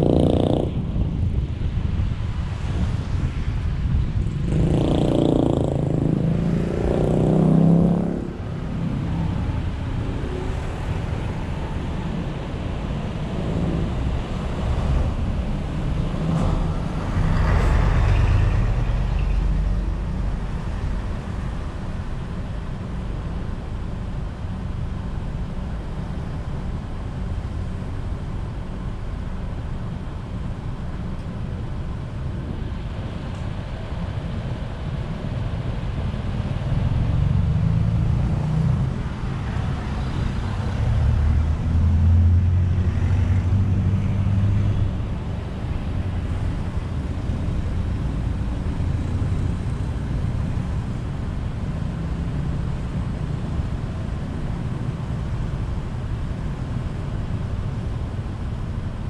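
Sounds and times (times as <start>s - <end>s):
road traffic noise: 0.0s - 59.0s.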